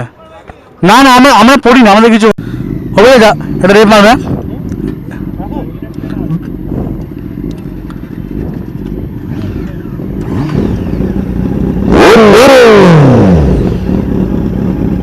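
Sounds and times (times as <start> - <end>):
motorcycle engine revving: 2.4 - 15.0.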